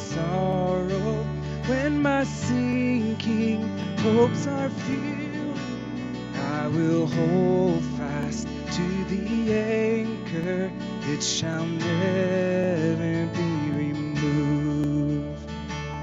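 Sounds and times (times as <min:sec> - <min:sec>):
steady bass line: 0:00.0 - 0:16.0
strummed acoustic guitar: 0:00.0 - 0:16.0.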